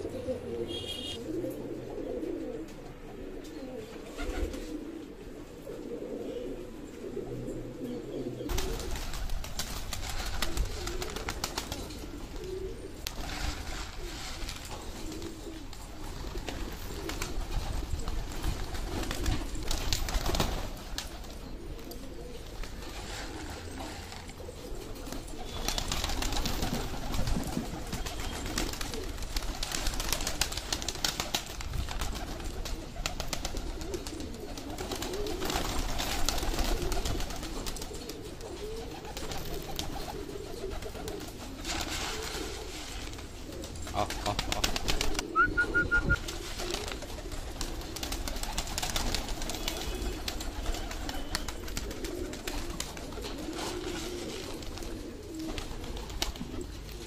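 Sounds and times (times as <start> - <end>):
pigeons cooing: 0.0 - 57.0.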